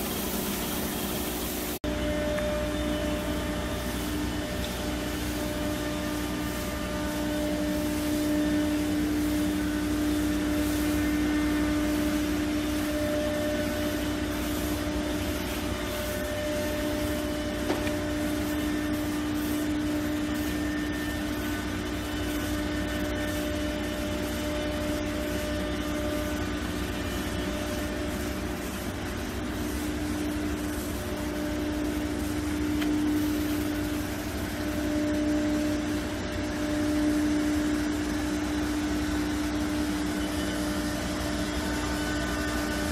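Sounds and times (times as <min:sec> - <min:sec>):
workshop machinery humming: 0:00.0 - 0:42.9.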